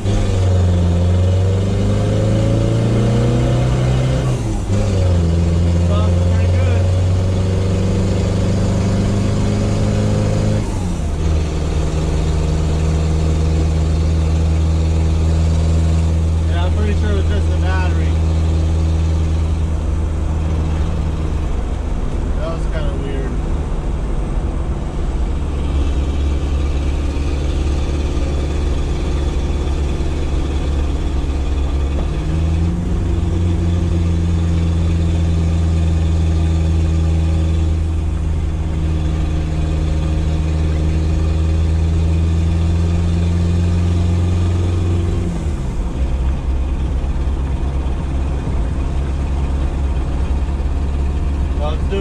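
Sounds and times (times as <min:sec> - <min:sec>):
diesel engine drone in cabin: 0:00.0 - 0:52.0.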